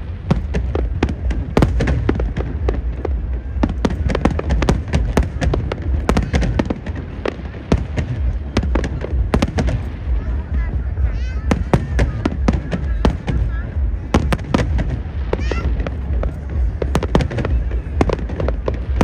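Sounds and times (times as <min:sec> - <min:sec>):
fireworks bangs and crackles: 0:00.0 - 0:19.0
steady low rumble: 0:00.0 - 0:19.0.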